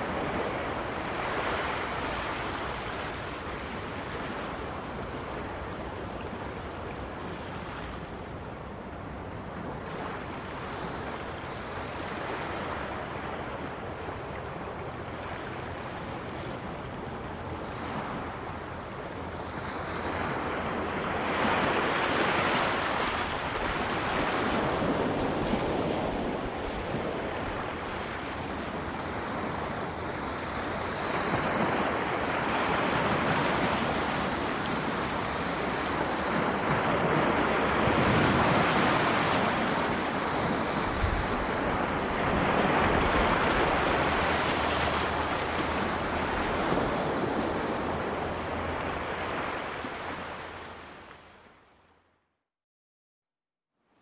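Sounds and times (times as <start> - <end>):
sea waves breaking on shore: 0.0 - 51.7.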